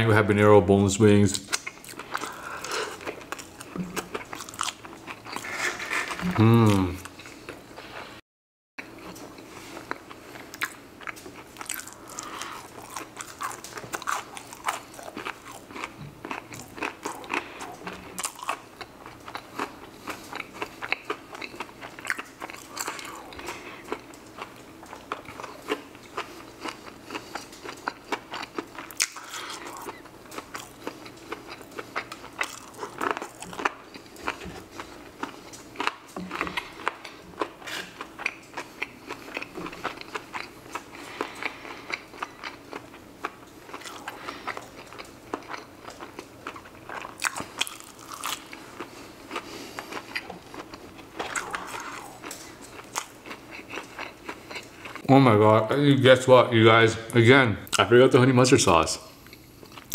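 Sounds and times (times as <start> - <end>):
chewing crunchy fried chicken: 1.3 - 7.9, 8.8 - 55.1, 59.2 - 59.9.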